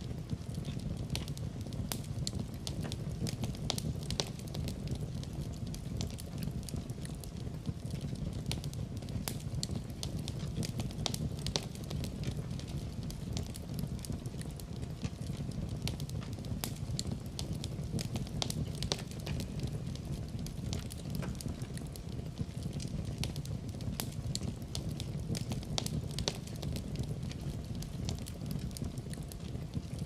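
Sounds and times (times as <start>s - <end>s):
fireplace fire crackling and popping: 0.0s - 30.0s.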